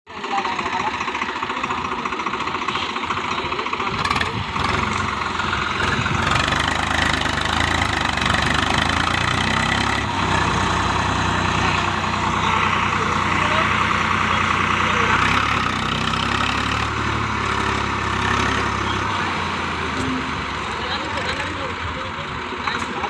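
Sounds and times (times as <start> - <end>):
diesel tractor engine running: 0.1 - 23.0.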